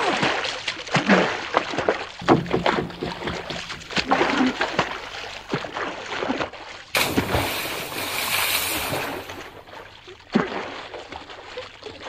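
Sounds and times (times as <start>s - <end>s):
water splashing: 0.1s - 11.8s.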